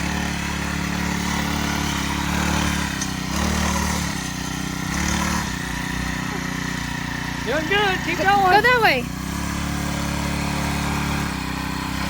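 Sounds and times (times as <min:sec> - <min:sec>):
small gas engine revving: 0:00.0 - 0:12.0.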